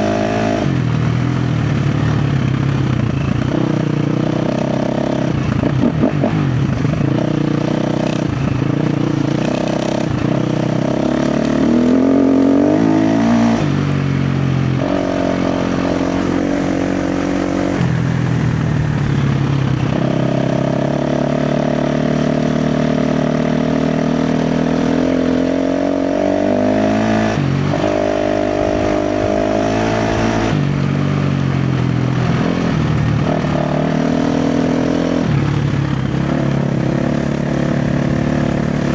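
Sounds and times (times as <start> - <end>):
dirt bike engine revving: 2.8 - 31.2, 32.0 - 38.9.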